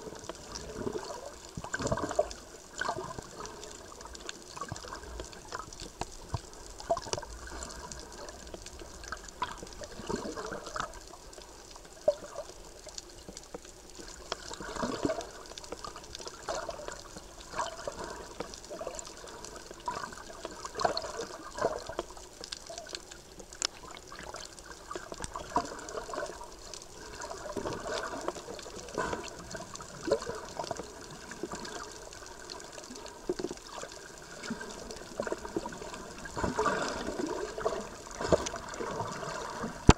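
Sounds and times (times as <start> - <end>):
water gurgling and bubbling: 0.0 - 12.6, 14.1 - 22.2, 23.8 - 39.9
sharp clicks and crackle: 0.1 - 39.9.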